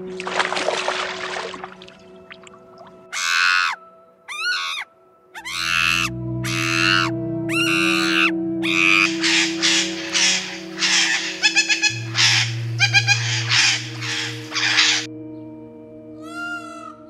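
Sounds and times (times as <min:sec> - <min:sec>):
low musical drone: 0:00.0 - 0:17.0.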